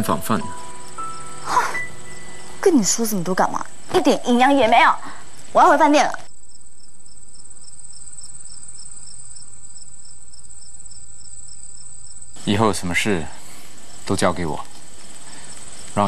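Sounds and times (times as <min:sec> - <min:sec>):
cricket chirp pulsing: 0:00.0 - 0:16.0
crickets trilling: 0:00.0 - 0:16.0.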